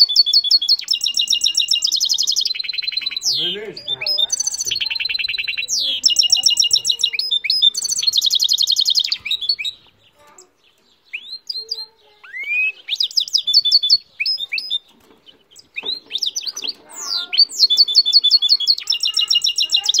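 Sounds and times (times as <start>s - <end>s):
bird whistles and chirps: 0.0s - 9.8s, 11.1s - 14.9s, 15.6s - 20.0s
bird singing fast trills: 0.0s - 20.0s.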